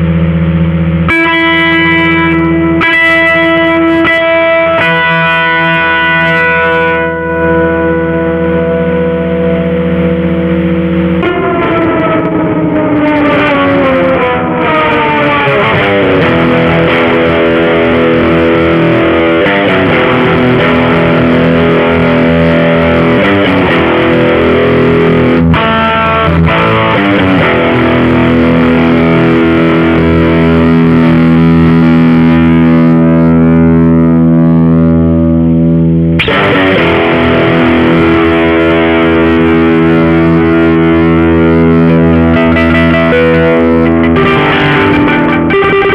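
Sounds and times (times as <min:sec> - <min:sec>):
distorted electric guitar chords: 0:00.0 - 0:45.9.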